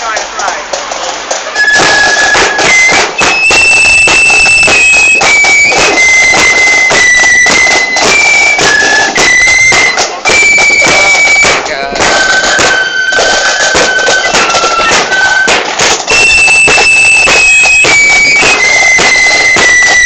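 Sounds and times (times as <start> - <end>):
heavy drumming: 0.0 - 20.0
shrill wind instrument melody: 0.1 - 20.0.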